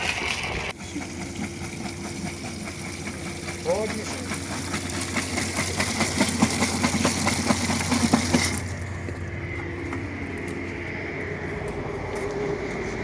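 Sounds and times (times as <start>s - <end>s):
engine hum: 0.0s - 13.0s.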